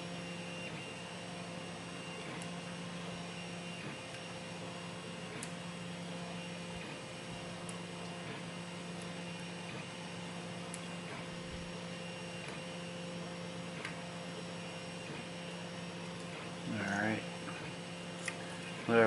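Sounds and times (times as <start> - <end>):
stepper motors humming: 0.0 - 19.0.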